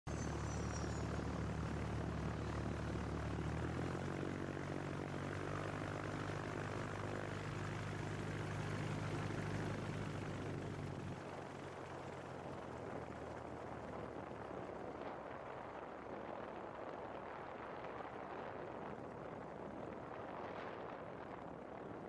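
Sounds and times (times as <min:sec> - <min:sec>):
propeller aircraft engine running: 0:00.1 - 0:22.0.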